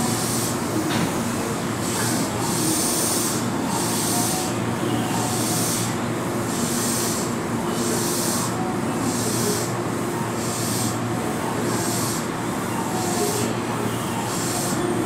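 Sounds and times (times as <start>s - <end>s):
train equipment humming: 0.0s - 15.0s.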